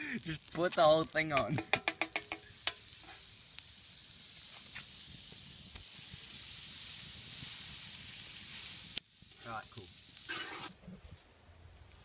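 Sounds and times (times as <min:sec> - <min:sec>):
fish sizzling in a pan: 0:00.0 - 0:10.7.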